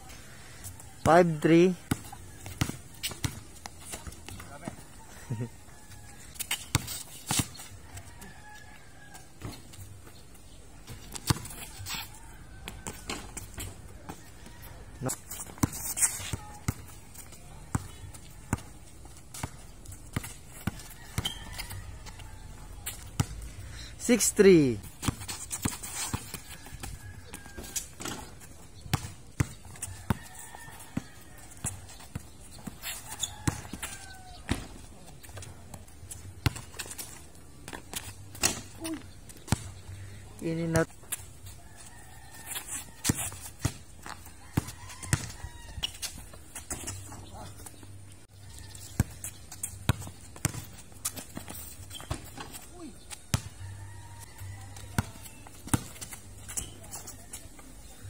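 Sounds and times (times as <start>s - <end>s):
basketball bouncing on concrete: 1.2s - 4.9s, 10.8s - 23.5s, 24.8s - 40.0s, 41.8s - 47.6s, 48.5s - 57.5s.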